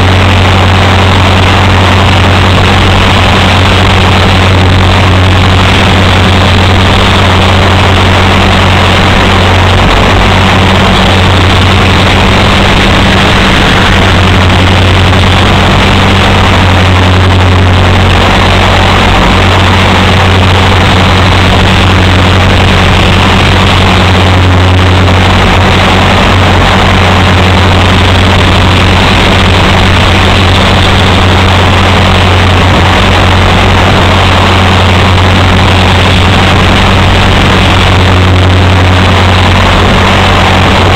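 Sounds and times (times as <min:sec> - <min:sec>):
rc helicopter drone: 0:00.0 - 0:40.9.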